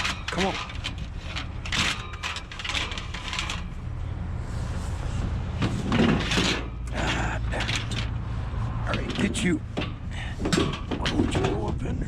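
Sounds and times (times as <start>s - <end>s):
scrap metal clattering and scraping: 0.0s - 12.0s.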